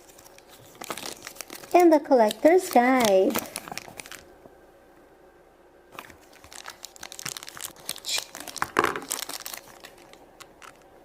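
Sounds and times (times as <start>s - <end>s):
plastic packaging crinkling: 0.0s - 4.3s, 5.9s - 11.0s.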